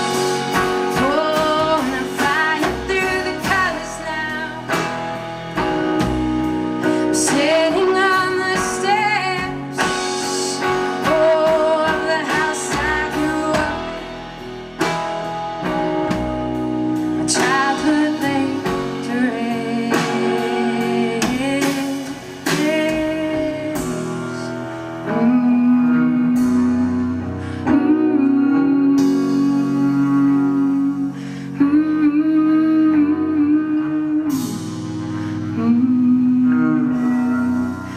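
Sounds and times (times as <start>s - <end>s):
person singing: 0.0s - 5.0s, 6.8s - 14.3s, 17.2s - 37.9s.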